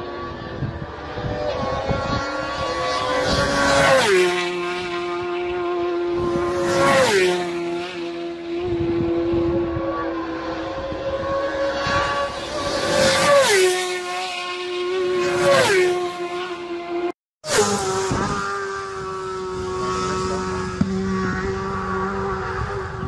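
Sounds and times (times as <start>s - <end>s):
racing motorcycles passing: 0.0s - 23.0s.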